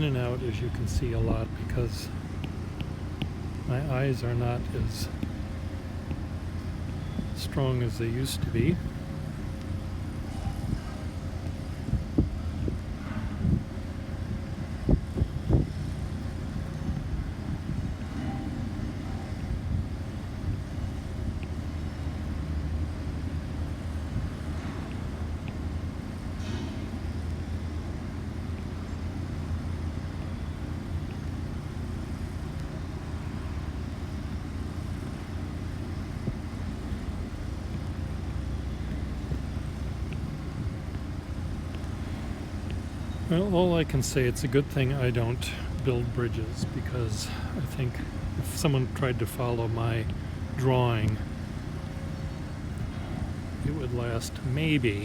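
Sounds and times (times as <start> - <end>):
low rumble of city traffic: 0.0 - 55.0.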